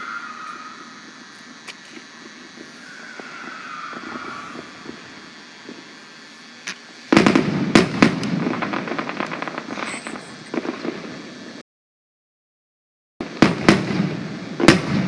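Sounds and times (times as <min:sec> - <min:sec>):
firework bangs and crackle: 0:00.0 - 0:11.6, 0:13.2 - 0:15.0.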